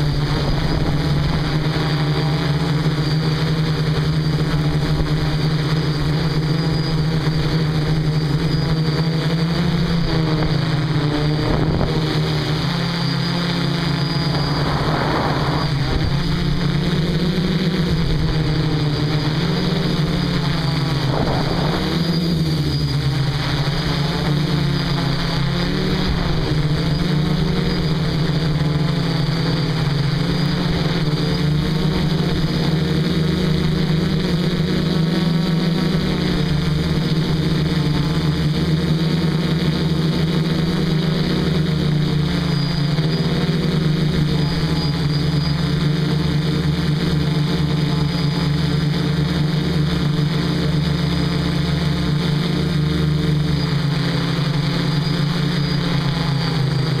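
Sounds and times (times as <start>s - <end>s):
quadcopter motors buzzing: 0.0s - 57.0s.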